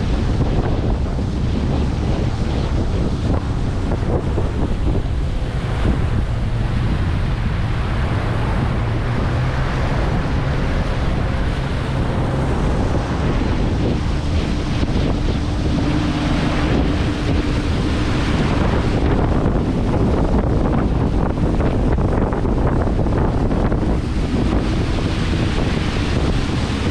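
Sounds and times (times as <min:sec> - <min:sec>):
open water: 0:00.0 - 0:26.9
wind buffeting microphone: 0:00.0 - 0:26.9.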